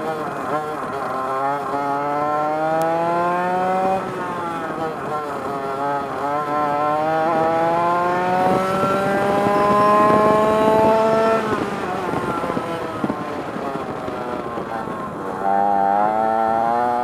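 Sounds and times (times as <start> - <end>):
kart engine revving: 0.0 - 17.0.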